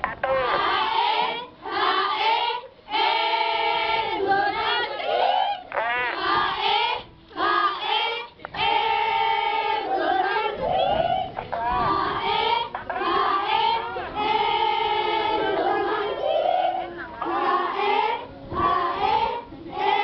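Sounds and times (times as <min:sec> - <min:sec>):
girls singing in unison: 0:00.6 - 0:20.0.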